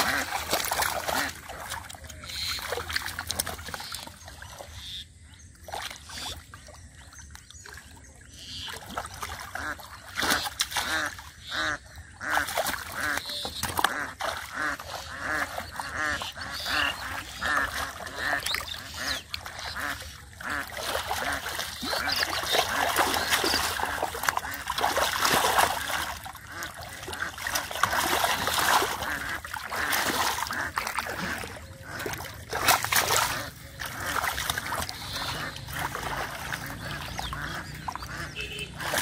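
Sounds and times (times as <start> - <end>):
ducks quacking: 0.0 - 5.2, 8.2 - 39.0
muddy water splashing: 0.0 - 39.0.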